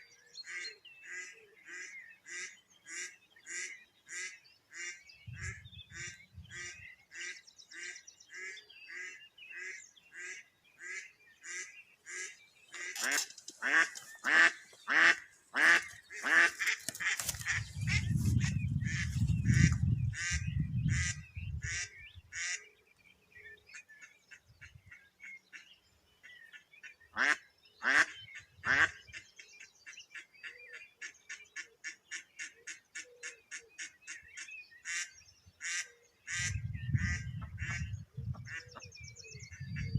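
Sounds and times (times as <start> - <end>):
ducks quacking: 0.4 - 22.7, 23.8 - 29.3, 31.0 - 39.9.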